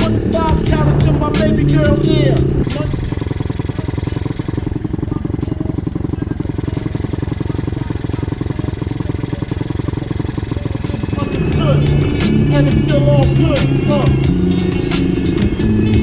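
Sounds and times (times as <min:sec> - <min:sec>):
pit bike engine running: 0:00.0 - 0:16.0.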